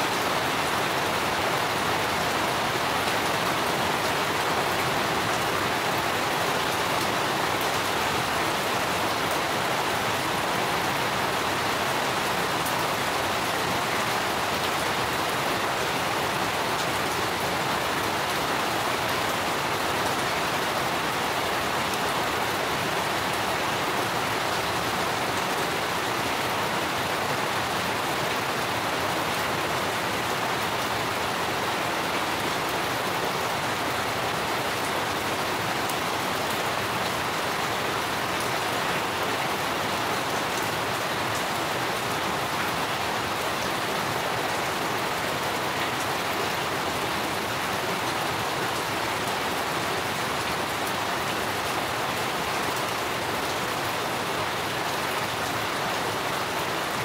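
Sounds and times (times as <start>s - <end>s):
rain on foliage and hard surfaces: 0.0s - 57.0s.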